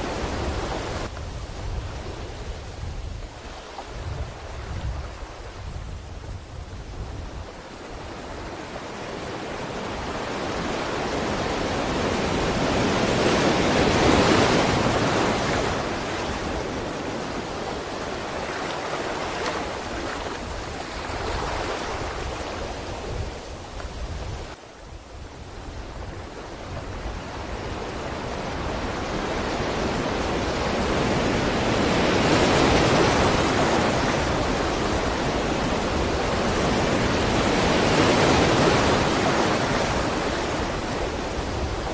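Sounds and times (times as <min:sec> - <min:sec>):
sea waves washing on shore: 0:00.0 - 0:41.9.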